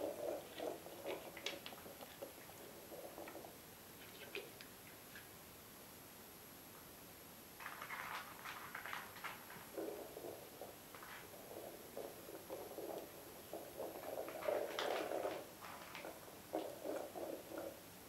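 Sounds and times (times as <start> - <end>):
ball rolling on hard floor: 0.0 - 4.6, 7.6 - 18.0.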